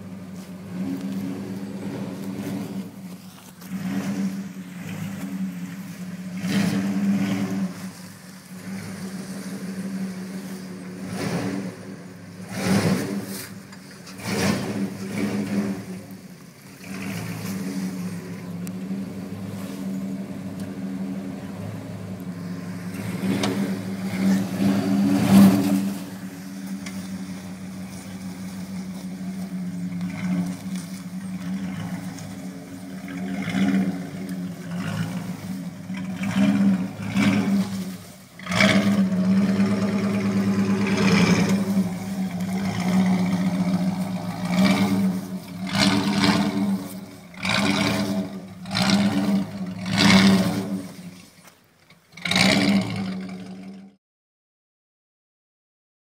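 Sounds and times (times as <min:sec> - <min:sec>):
suv engine revving: 0:00.0 - 0:54.0.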